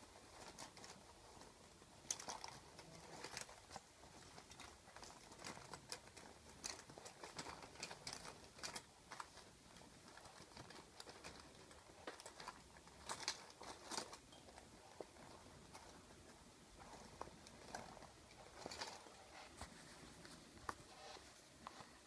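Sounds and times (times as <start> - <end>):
light scratchy rustles: 0.0 - 22.0.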